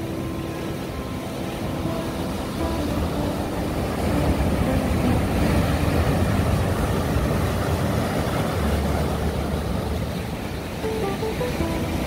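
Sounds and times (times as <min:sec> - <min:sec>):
wind buffeting microphone: 0:00.0 - 0:11.0
surf washing over pebbles: 0:00.0 - 0:12.0.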